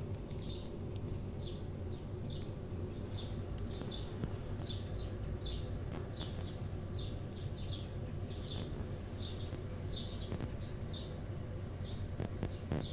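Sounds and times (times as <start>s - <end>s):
low background rumble: 0.0s - 12.9s
small bird chirping: 0.0s - 12.9s.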